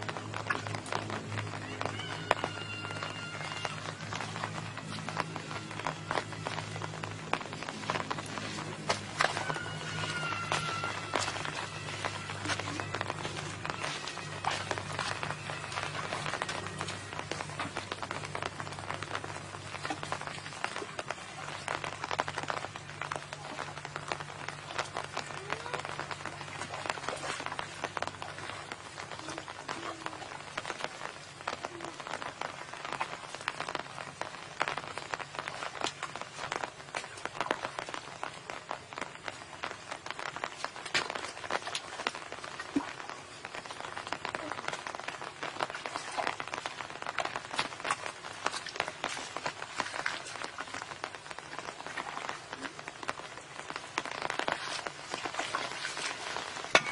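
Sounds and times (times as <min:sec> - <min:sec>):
splashing in muddy water: 0:00.0 - 0:56.9.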